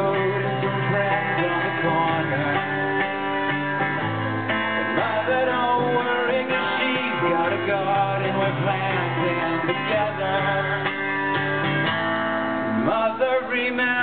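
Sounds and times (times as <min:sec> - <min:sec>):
person singing: 0:00.0 - 0:03.4, 0:04.8 - 0:11.5, 0:12.7 - 0:14.0
acoustic guitar playing: 0:00.0 - 0:14.0.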